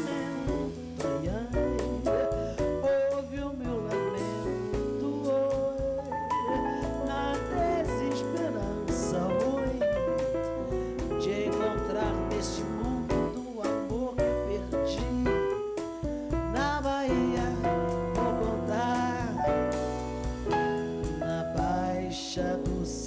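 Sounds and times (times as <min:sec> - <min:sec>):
woman singing: 0:00.0 - 0:10.3, 0:11.0 - 0:15.8, 0:16.5 - 0:19.6, 0:21.0 - 0:23.0
drum kit: 0:00.0 - 0:23.0
electric bass: 0:00.0 - 0:23.0.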